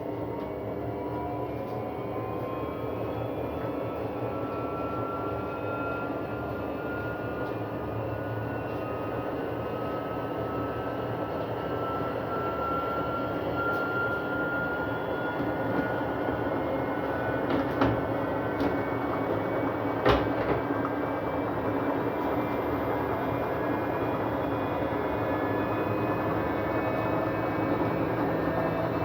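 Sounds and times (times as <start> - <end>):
washing machine running: 0.0 - 29.0.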